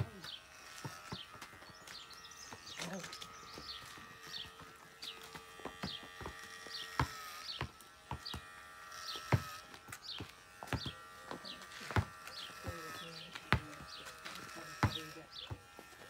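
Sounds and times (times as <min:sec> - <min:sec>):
bird chirping: 0:00.0 - 0:15.6
electric hair clippers buzzing: 0:00.0 - 0:16.0.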